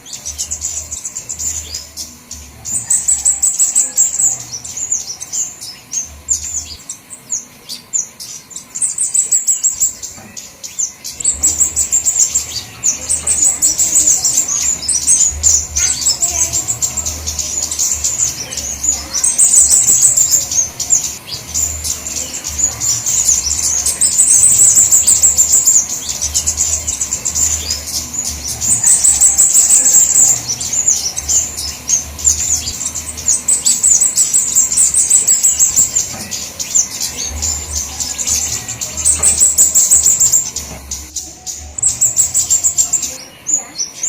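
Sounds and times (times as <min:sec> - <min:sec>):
small birds chirping high: 0:00.0 - 0:44.0.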